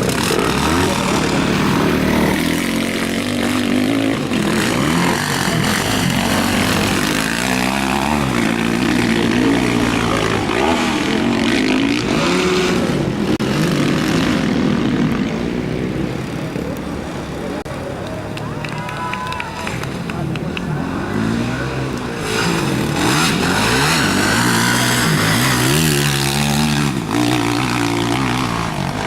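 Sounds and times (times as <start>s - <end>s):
motocross motorcycles revving: 0.0s - 18.4s, 19.5s - 29.0s.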